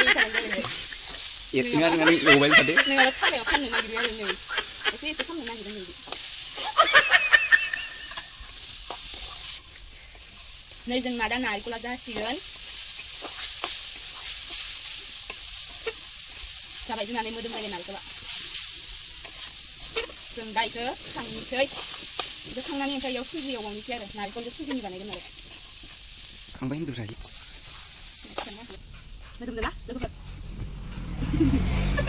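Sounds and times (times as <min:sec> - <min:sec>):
metal spatula scraping a pan: 0:00.0 - 0:26.4
soft sizzle: 0:00.0 - 0:32.0.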